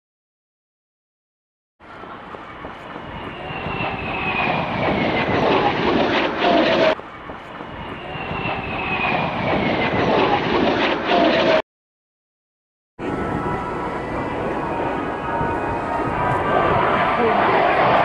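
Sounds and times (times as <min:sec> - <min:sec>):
jet aircraft flying past: 0:01.8 - 0:11.6, 0:13.0 - 0:18.0.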